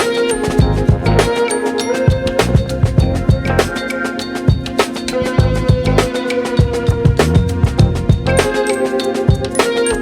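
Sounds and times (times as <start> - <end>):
background music with drums: 0.0 - 10.0.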